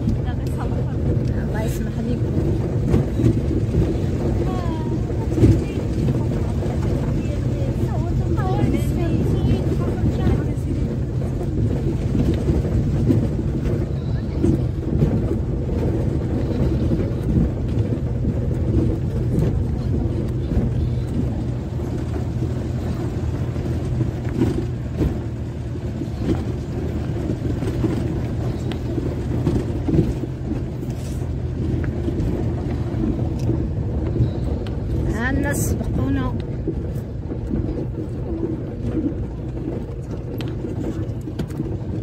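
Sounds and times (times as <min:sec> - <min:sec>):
tyre and road rumble: 0:00.0 - 0:42.0
vehicle engine running: 0:00.0 - 0:42.0.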